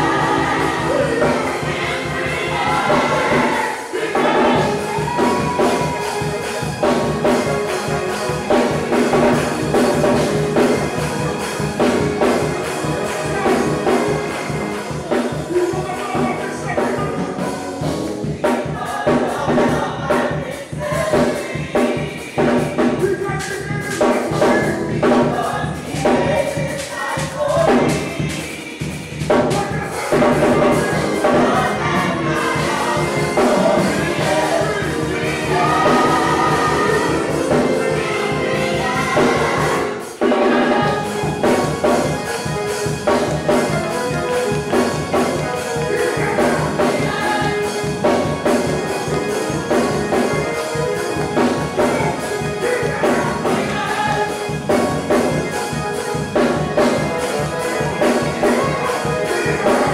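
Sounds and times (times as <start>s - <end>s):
gospel singers over a beat: 0.0s - 59.9s.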